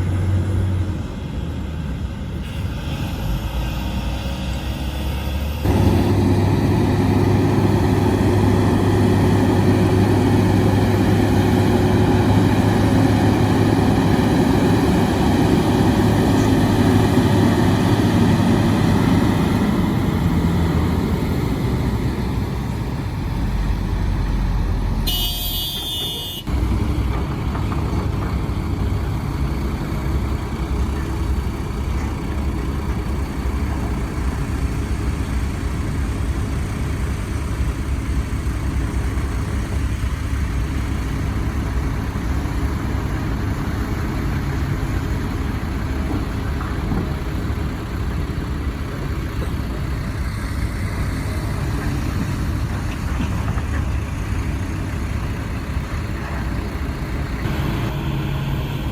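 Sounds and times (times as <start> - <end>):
heavy diesel machinery running: 0.0 - 58.9.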